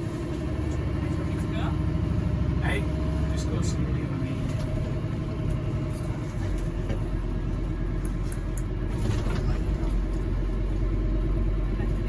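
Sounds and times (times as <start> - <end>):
fire engine diesel drone: 0.0 - 12.0.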